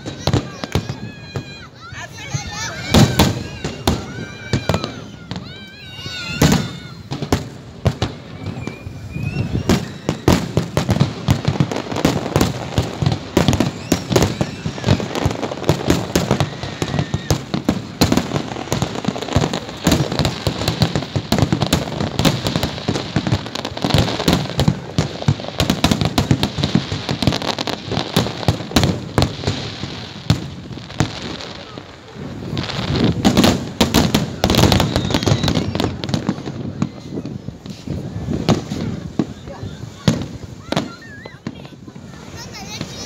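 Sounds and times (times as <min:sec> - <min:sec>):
fireworks bangs: 0:00.0 - 0:43.0.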